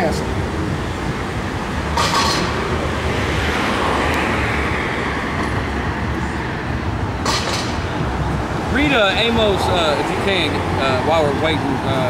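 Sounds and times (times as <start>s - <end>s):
steady low rumble: 0.0s - 12.0s
vehicle passing: 0.0s - 12.0s.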